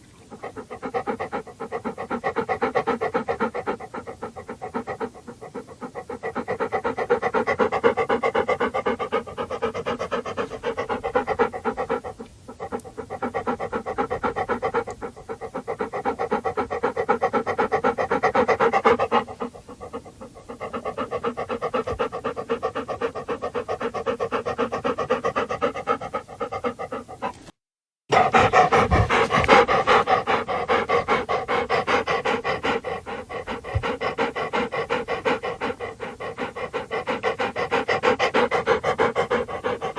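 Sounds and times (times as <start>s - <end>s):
dog panting rapidly: 0.0s - 39.9s.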